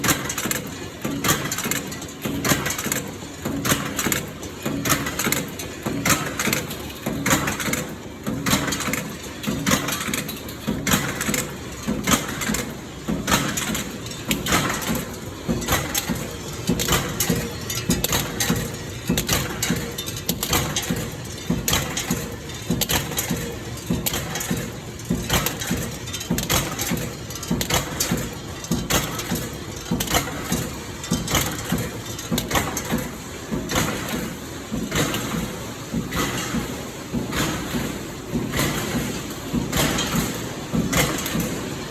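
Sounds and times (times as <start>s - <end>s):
machine knocking: 0.0s - 41.9s
steady mechanical noise: 0.0s - 41.9s.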